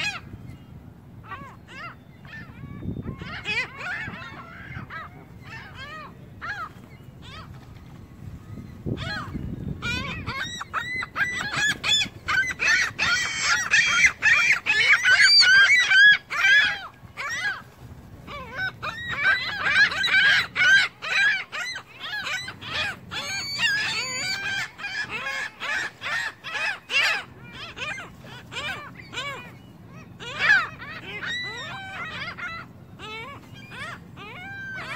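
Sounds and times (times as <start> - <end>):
gulls and geese calling: 0.0 - 34.9.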